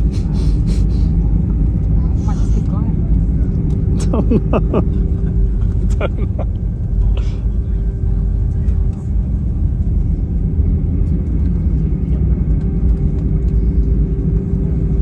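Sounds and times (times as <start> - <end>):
airliner cabin low rumble: 0.0 - 15.0
constant cabin hum: 0.0 - 15.0.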